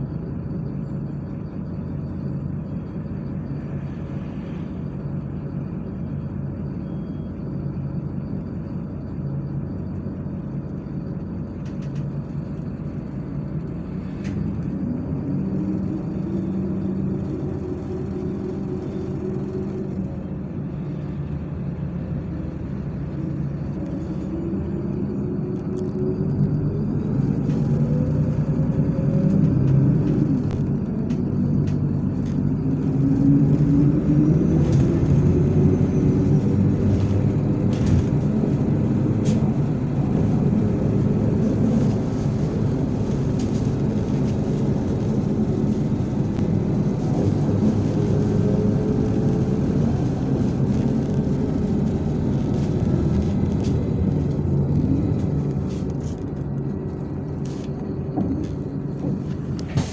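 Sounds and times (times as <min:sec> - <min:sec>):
bus diesel engine: 0:00.0 - 0:59.9
road noise: 0:00.0 - 0:59.9.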